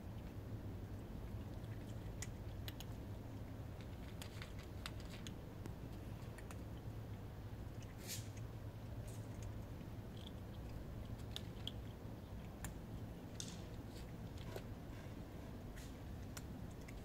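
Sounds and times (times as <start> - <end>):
kitten crunching dry kibble: 0.0 - 17.0.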